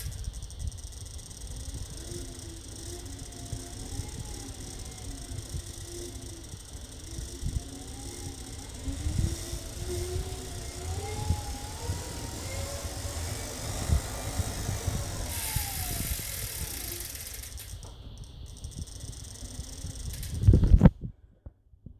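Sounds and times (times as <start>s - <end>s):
bike trainer clicking and knocking: 0.0s - 20.9s.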